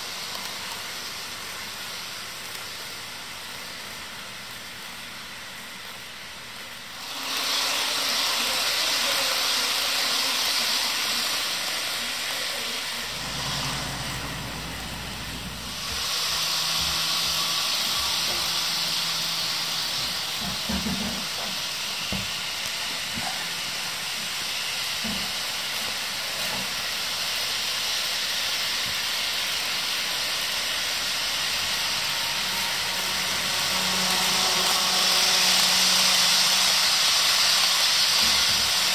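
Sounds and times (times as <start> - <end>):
model trains running on track: 0.0 - 38.9.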